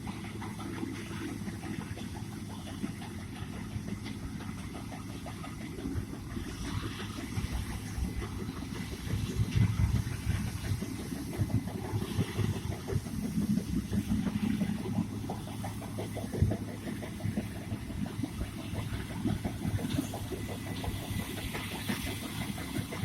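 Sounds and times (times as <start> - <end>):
farm machinery engine rumbling: 0.0 - 23.0.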